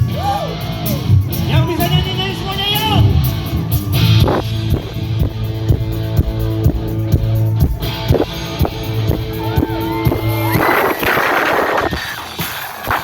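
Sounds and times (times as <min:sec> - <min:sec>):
steady drum beat: 0:00.0 - 0:13.0
strummed electric guitar chords: 0:00.0 - 0:13.0.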